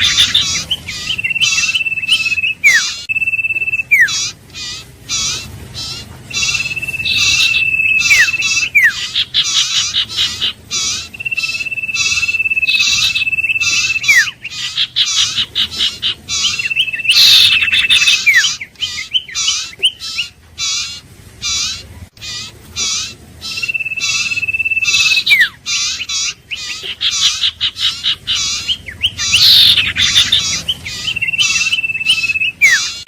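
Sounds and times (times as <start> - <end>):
bird trilled whistle: 0.0 - 20.9, 22.4 - 33.0
high bird chirping: 0.0 - 33.0.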